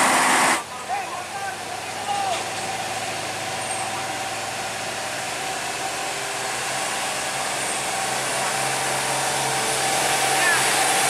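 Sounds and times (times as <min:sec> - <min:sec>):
truck diesel engine under load: 0:00.0 - 0:11.0.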